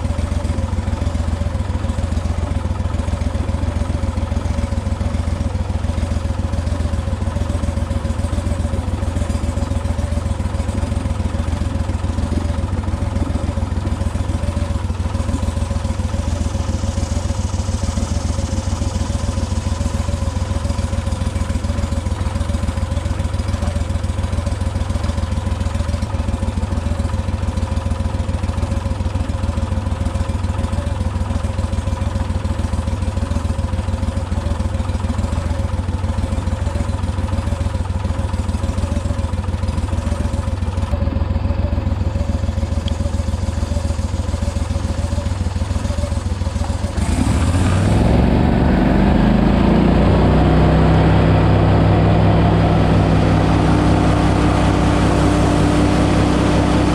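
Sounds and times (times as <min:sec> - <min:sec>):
boat motor running: 0:00.0 - 0:32.0, 0:33.9 - 0:56.9.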